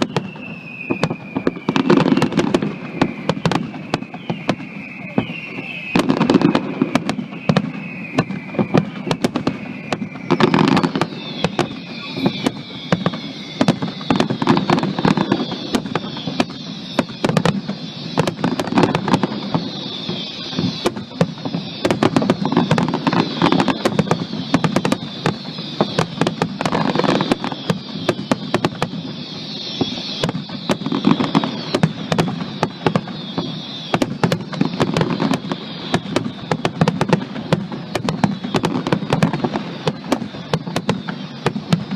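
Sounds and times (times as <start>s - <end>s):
fireworks crackling and banging: 0.0s - 41.9s
fireworks whistles gliding down: 0.0s - 41.9s.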